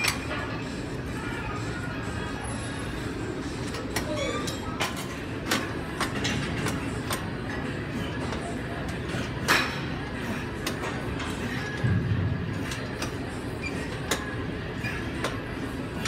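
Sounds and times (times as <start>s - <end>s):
gym background rumble: 0.0s - 16.0s.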